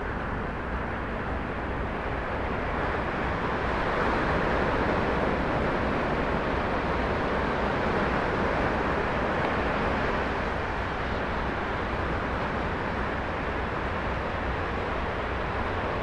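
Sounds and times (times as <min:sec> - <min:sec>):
ocean surf roaring: 0:00.1 - 0:16.0.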